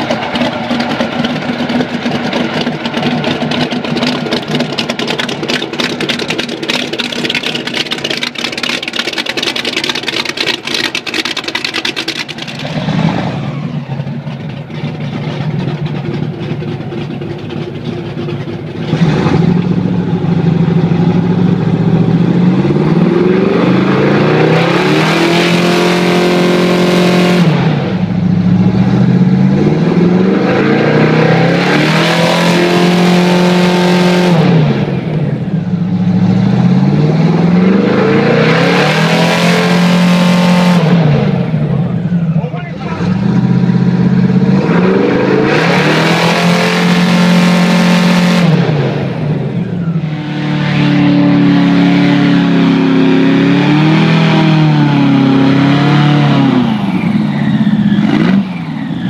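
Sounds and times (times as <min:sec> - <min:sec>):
airboat engine and propeller roaring: 0:00.0 - 0:59.0.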